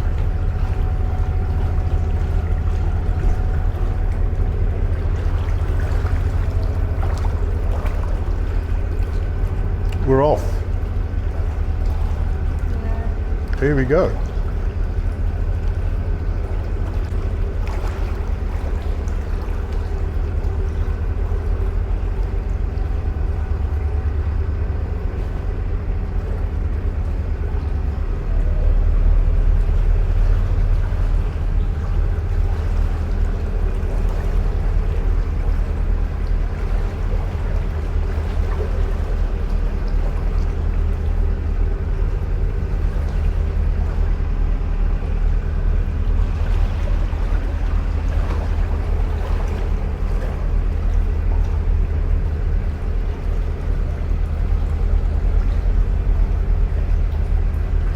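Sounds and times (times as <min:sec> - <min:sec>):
boat diesel engine throbbing: 0:00.0 - 0:57.9.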